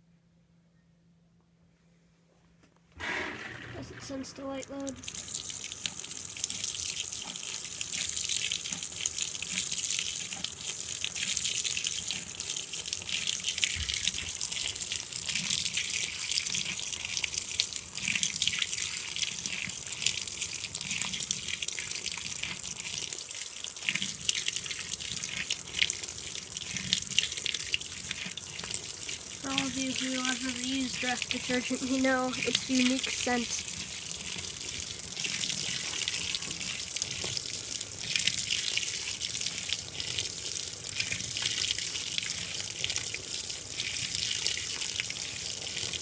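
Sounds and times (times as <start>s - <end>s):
water pouring into washing machine: 4.8s - 46.0s.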